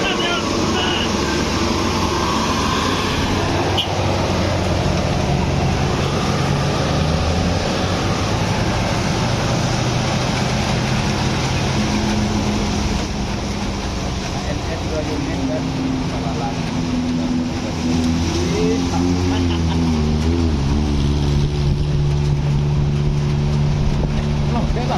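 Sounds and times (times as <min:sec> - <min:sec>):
large vehicle engine running: 0:00.0 - 0:24.9
road noise: 0:00.0 - 0:24.9.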